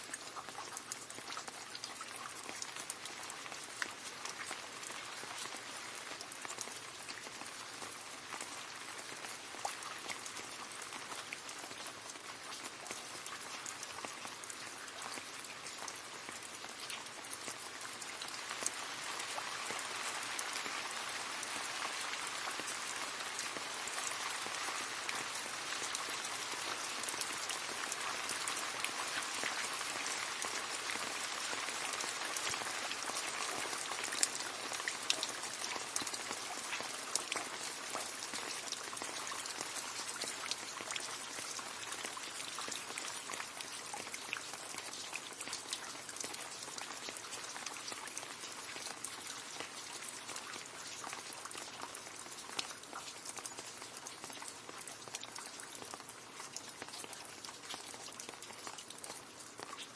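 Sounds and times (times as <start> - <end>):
rain splashing into a puddle: 0.0 - 59.9.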